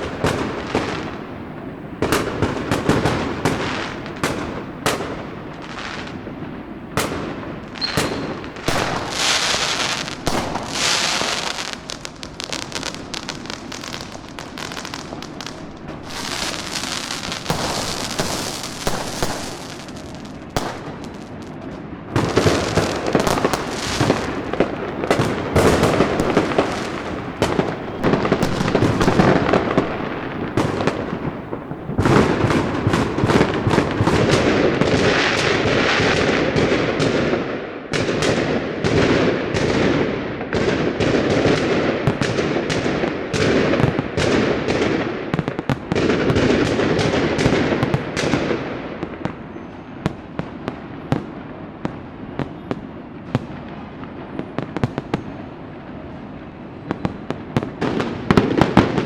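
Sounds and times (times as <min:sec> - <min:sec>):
firecrackers crackling: 0:00.0 - 0:59.0
fireworks pops and bangs: 0:00.0 - 0:59.0.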